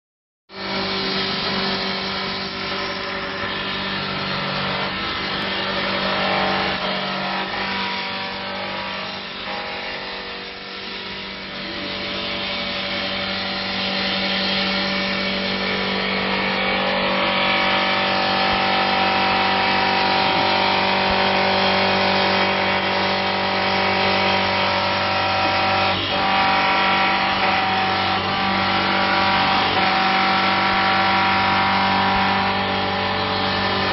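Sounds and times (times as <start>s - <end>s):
lathe motors humming: 0.6s - 33.9s
rasping wood cutting noise: 0.6s - 33.9s.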